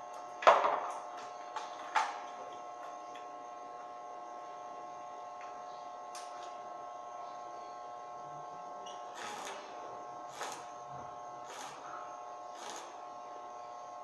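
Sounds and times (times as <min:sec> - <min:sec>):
welding machine electrical hum: 0:00.0 - 0:14.0.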